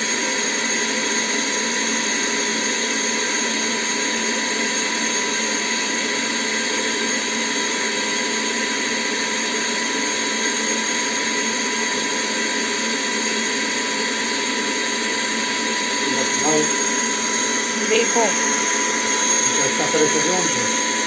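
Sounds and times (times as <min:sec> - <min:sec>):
handheld vacuum cleaner running: 0:00.0 - 0:21.0.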